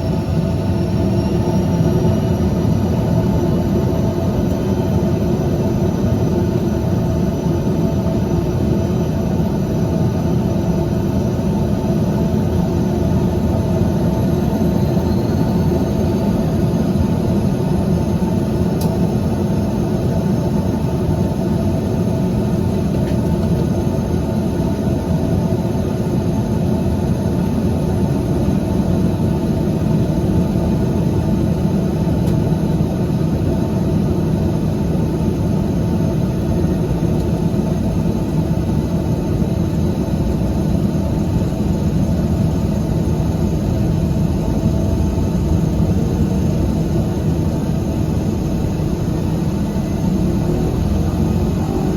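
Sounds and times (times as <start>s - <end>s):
turboprop engines droning in cabin: 0.0s - 51.9s.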